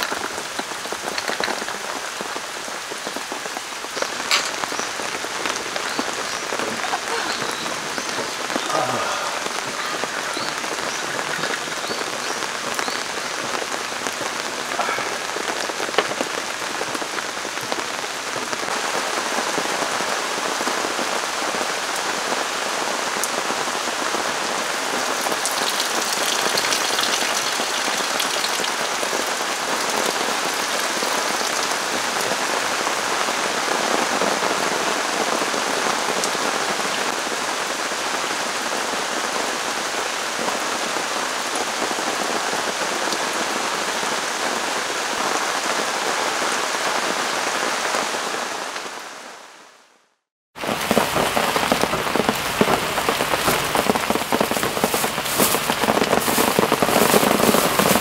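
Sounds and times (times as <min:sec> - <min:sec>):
heavy rain on tarp: 0:00.0 - 0:58.0.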